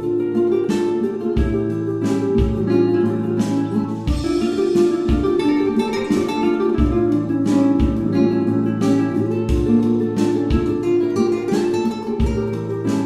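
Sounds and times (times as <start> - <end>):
acoustic guitar tune with beat: 0.0 - 13.0.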